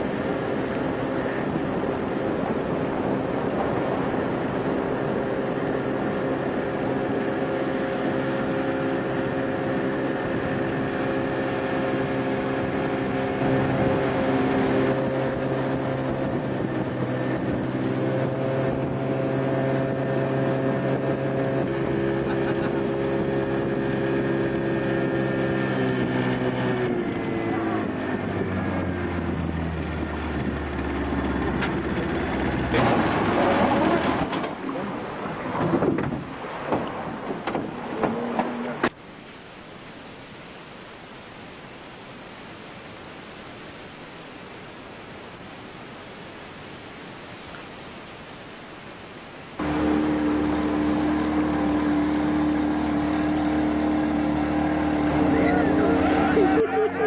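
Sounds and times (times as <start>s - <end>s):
boat engine running: 0.0s - 39.0s, 49.6s - 57.0s
wind and water rushing: 0.0s - 57.0s.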